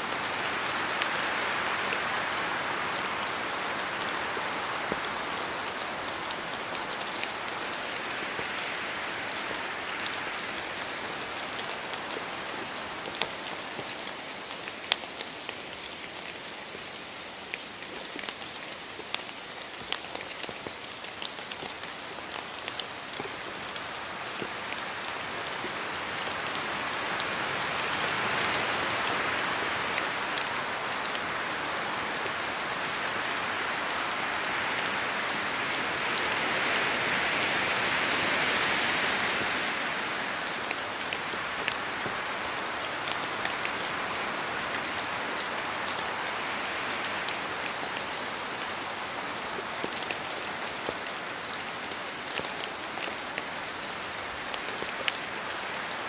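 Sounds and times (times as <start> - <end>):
rain drops ticking: 0.0 - 56.0
wind: 0.0 - 56.0.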